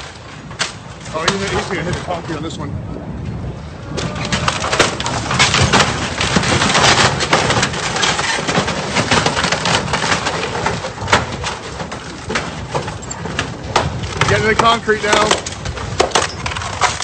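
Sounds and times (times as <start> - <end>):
concrete crunching and cracking: 0.0 - 2.5, 3.8 - 17.0.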